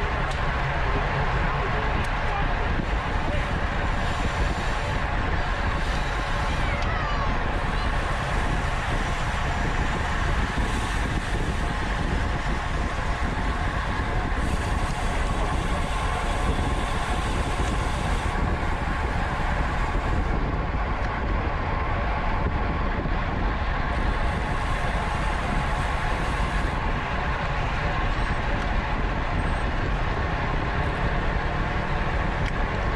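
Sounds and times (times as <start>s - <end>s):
bicycle tyre noise: 0.0s - 32.9s
wind rushing: 0.0s - 32.9s.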